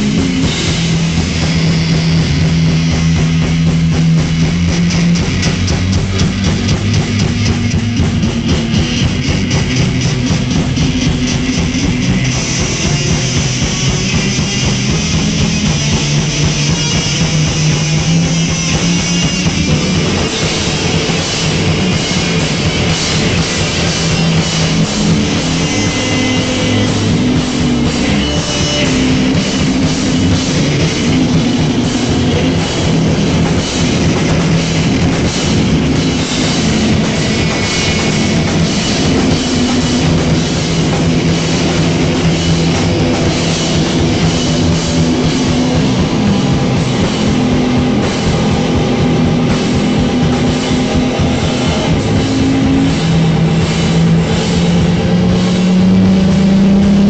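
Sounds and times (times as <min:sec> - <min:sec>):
drums and cymbals: 0:00.0 - 0:57.0
electric guitars: 0:00.0 - 0:57.0.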